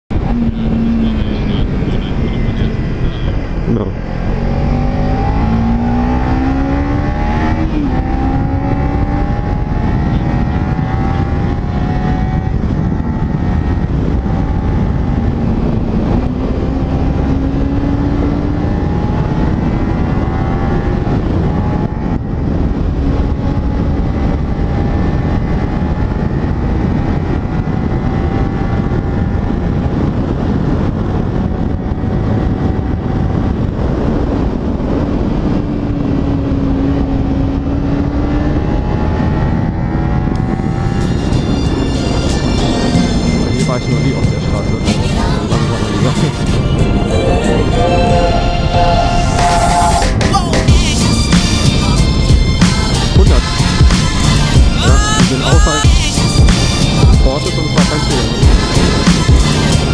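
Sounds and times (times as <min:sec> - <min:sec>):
motorcycle engine: 0:00.1 - 0:59.9
wind rumble on microphone: 0:00.1 - 0:59.9.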